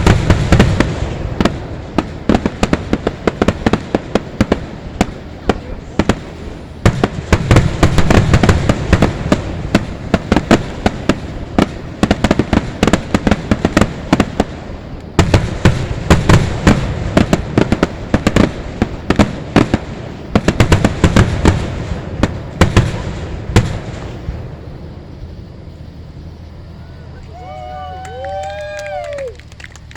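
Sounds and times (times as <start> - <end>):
heavy low firework booms: 0.0 - 27.1
fireworks bangs and crackles: 0.0 - 29.9.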